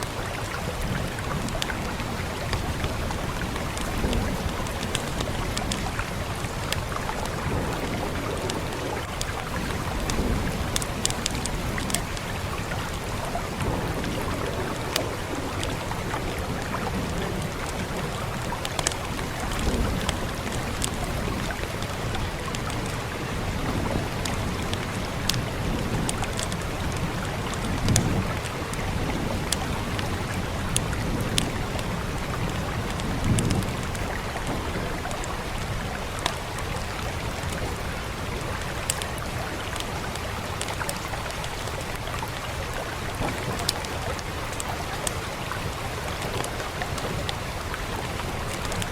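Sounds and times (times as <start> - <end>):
steady rain: 0.0 - 48.9
wood fire crackling: 0.0 - 48.9.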